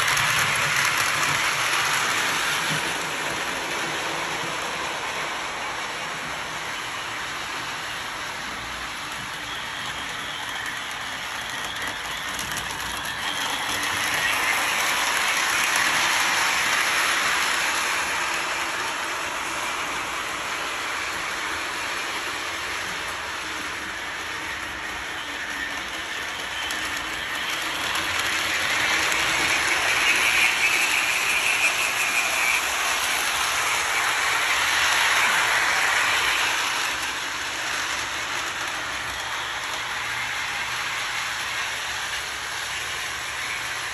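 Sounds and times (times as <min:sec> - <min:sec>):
toy train clattering on track: 0:00.0 - 0:43.9.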